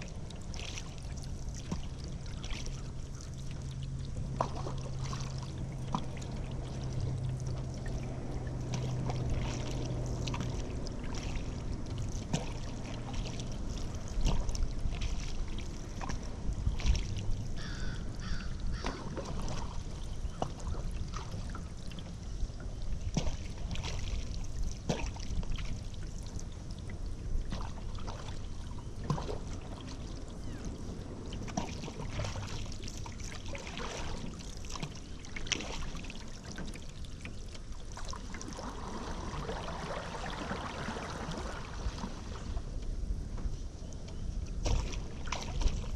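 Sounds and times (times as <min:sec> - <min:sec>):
paddle splashing in water: 0:00.0 - 0:45.9
water trickling off paddle: 0:00.0 - 0:45.9.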